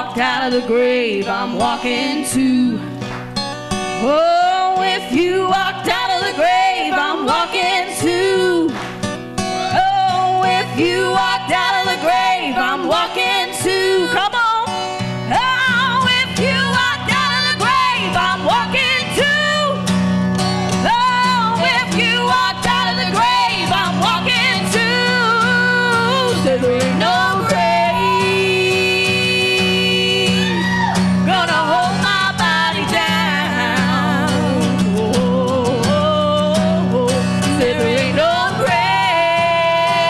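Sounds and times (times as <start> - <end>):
women singing gospel: 0.0 - 3.0, 4.0 - 8.9, 9.6 - 14.7, 15.3 - 19.8, 20.8 - 40.0
strummed acoustic guitar: 0.0 - 40.0.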